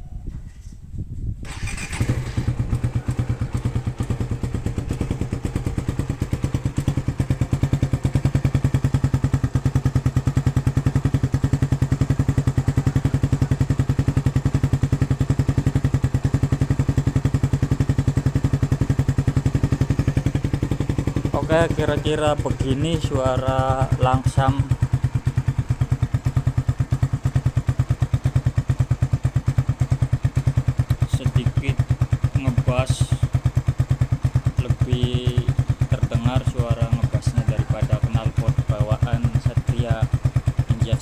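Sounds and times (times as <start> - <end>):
motorcycle engine starting and idling: 1.4 - 41.0.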